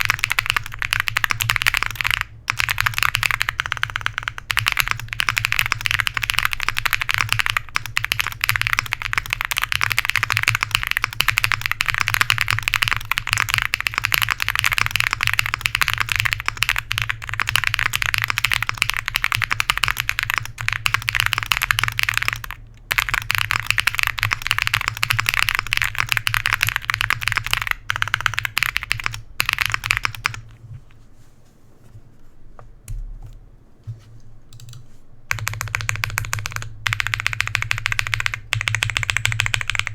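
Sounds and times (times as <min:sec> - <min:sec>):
mechanical keyboard typing: 0:00.0 - 0:30.5, 0:34.5 - 0:39.9.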